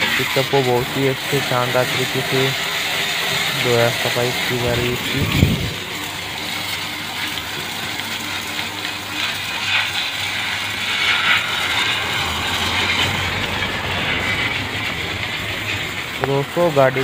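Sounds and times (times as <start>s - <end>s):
pressure washer spraying water: 0.0s - 17.0s.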